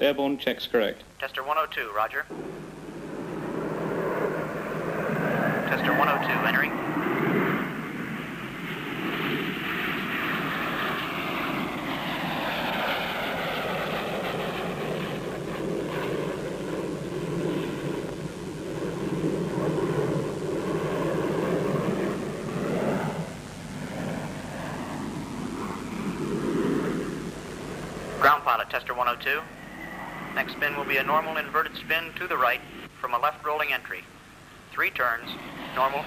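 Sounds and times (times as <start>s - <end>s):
aircraft engine and airflow drone: 0.8s - 36.0s.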